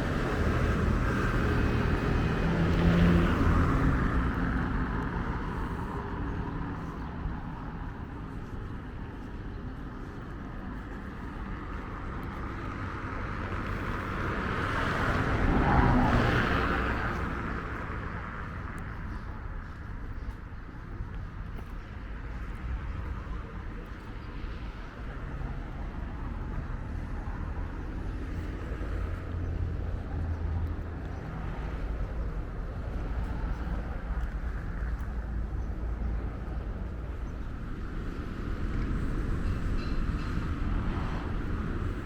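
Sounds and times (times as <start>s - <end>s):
town traffic hum: 0.0s - 42.0s
vehicles passing close by: 0.0s - 42.0s.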